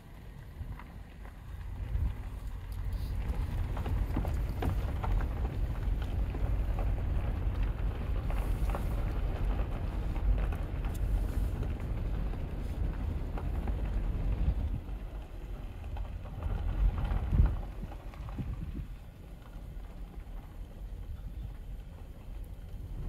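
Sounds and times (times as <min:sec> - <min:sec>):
car rumbling slowly: 0:00.0 - 0:23.0
wind buffeting microphone: 0:00.5 - 0:23.0.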